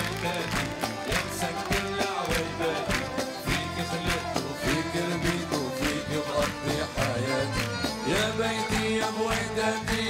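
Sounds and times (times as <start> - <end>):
band playing upbeat instrumental: 0.0 - 10.0.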